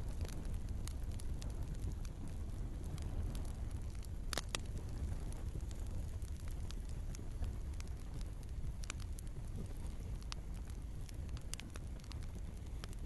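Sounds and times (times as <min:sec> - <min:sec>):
fire rumbling: 0:00.0 - 0:13.0
logs crackling: 0:00.0 - 0:13.0
sharp pops from fire: 0:00.0 - 0:13.0.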